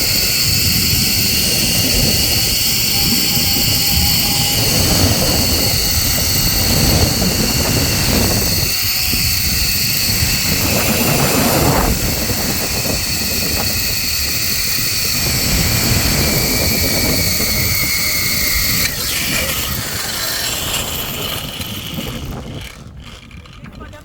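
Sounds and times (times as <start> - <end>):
wind buffeting the microphone: 0.0 - 24.0
zipline rushing: 0.0 - 24.0.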